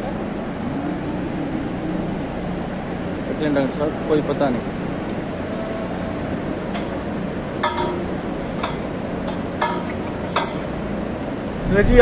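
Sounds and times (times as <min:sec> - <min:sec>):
ventilation fans rushing: 0:00.0 - 0:12.0.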